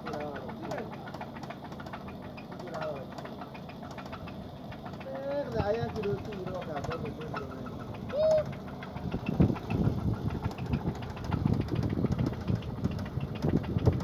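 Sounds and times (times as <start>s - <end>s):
car engine idling: 0.0s - 14.0s
rapid light engine ticking: 0.0s - 14.0s.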